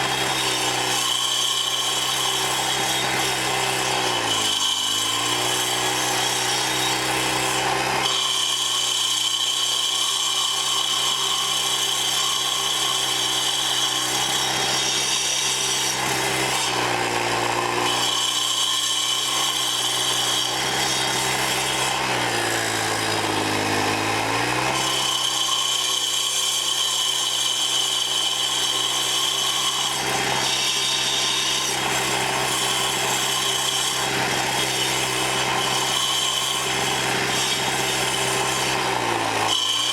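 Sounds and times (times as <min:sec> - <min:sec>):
saw blades grinding into stump: 0:00.0 - 0:39.9.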